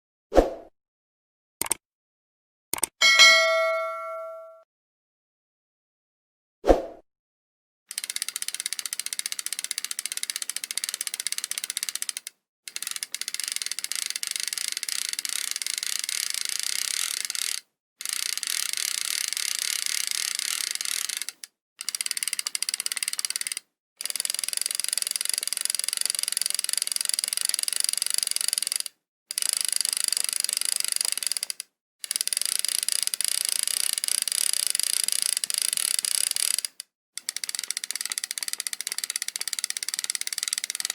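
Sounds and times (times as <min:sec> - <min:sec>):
fishing reel clicking: 0:07.9 - 0:40.9.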